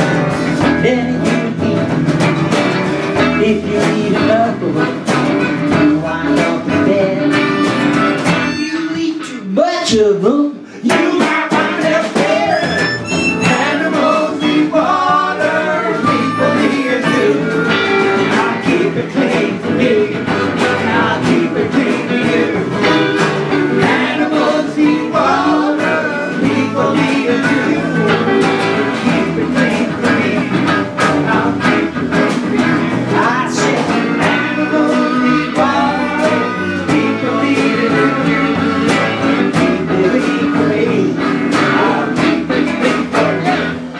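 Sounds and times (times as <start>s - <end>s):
strummed acoustic guitar: 0.0s - 9.6s, 10.8s - 43.9s
drums: 0.0s - 43.9s
harmonica: 4.3s - 9.3s, 11.6s - 43.9s.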